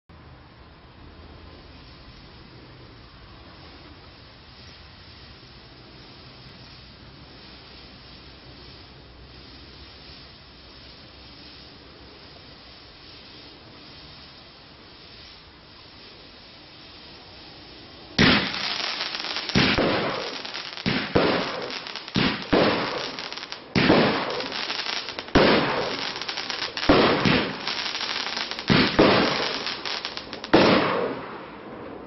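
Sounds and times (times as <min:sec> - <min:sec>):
faint fuse hiss: 0:00.1 - 0:32.0
firework bangs with crackling: 0:01.6 - 0:32.0.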